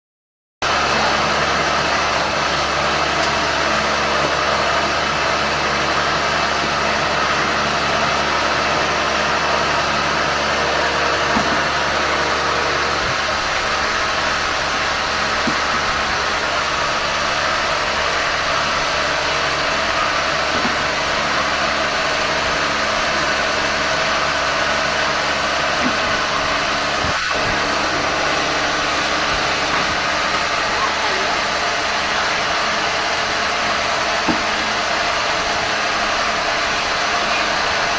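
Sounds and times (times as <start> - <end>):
cotton candy machine running: 0.6 - 37.9.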